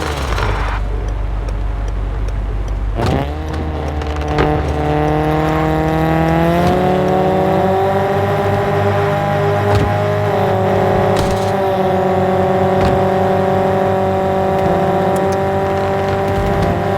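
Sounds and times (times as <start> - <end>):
sharp exhaust crack: 0.0 - 2.2, 2.8 - 16.9
car exhaust engine running: 0.0 - 16.9.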